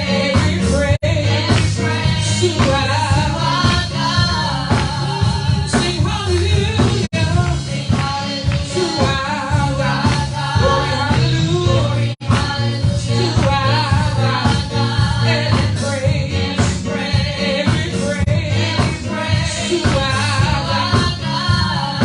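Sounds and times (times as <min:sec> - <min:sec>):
gospel song singing: 0:00.0 - 0:22.0
steady bass beat: 0:00.0 - 0:22.0.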